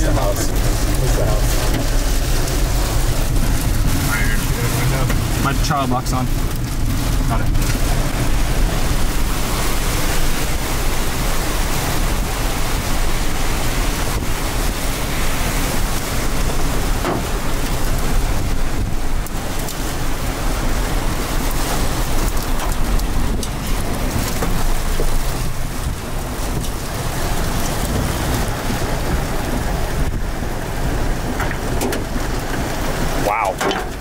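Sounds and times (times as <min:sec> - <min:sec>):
wind buffeting microphone: 0:00.0 - 0:33.2
heavy rain: 0:00.0 - 0:34.0
strong wind: 0:00.0 - 0:34.0.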